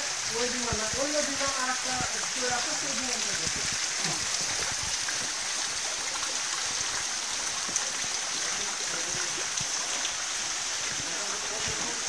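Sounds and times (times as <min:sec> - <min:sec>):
rushing running water: 0:00.0 - 0:12.0.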